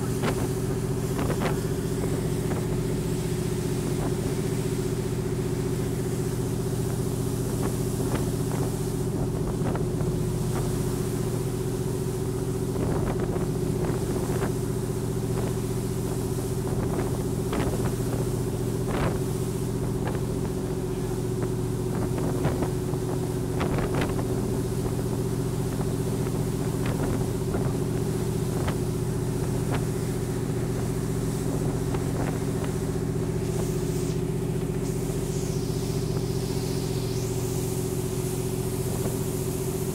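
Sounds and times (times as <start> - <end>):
boat engine droning: 0.0 - 39.9
water splashing against hull: 0.0 - 39.9.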